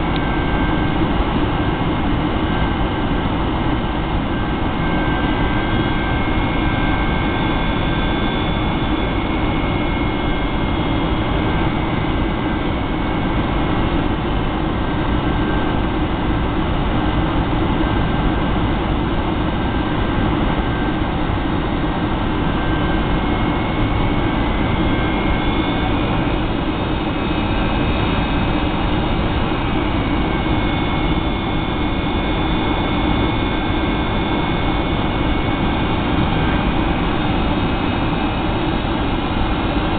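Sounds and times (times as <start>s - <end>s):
engine and airflow rush: 0.0s - 39.9s
faint high engine whine: 0.0s - 39.9s.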